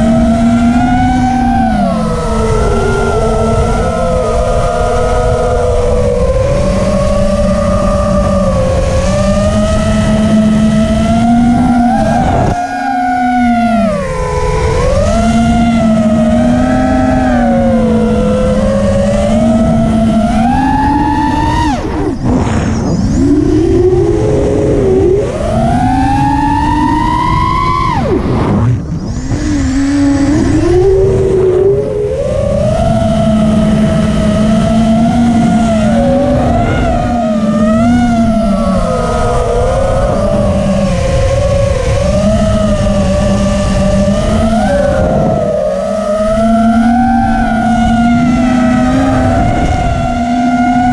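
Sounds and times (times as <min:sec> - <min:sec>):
drone motors whining: 0:00.0 - 0:50.9
low wind rumble: 0:00.0 - 0:50.9.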